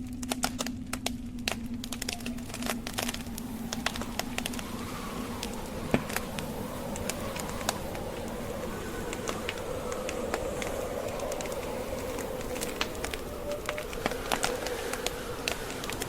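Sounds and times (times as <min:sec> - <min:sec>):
howling blizzard wind: 0:00.0 - 0:16.0
logs crackling and popping: 0:00.0 - 0:16.0
wind rushing: 0:01.6 - 0:16.0.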